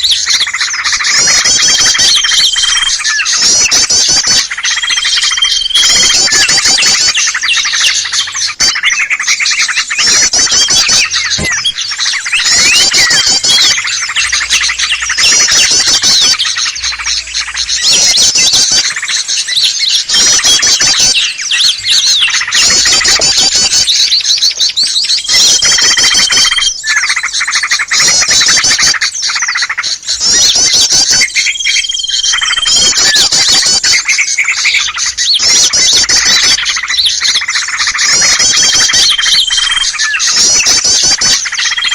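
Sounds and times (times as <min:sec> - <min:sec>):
songbirds chirping and trilling: 0:00.0 - 0:41.9.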